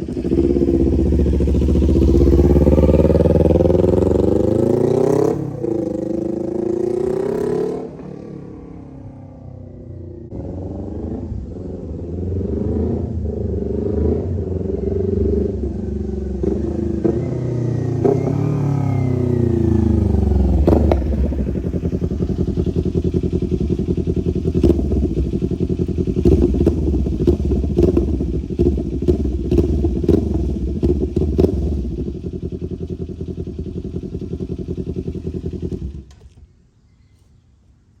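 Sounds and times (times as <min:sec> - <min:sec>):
motorcycle engine revving: 0:00.0 - 0:36.5.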